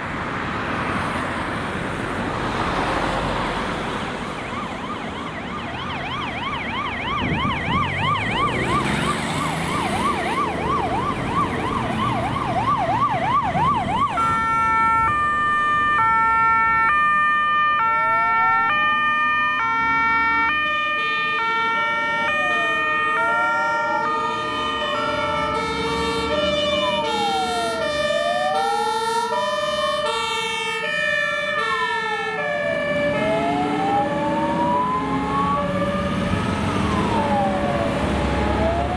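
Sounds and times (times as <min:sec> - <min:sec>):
two-tone hi-lo sirens: 0:02.4 - 0:38.9
wailing siren: 0:02.8 - 0:38.9
yelping siren: 0:04.1 - 0:38.9.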